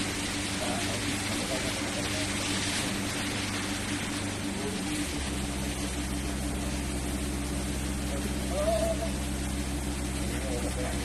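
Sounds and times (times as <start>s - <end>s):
deep drone: 0.0s - 11.0s
machinery hum with held tones: 0.0s - 11.0s.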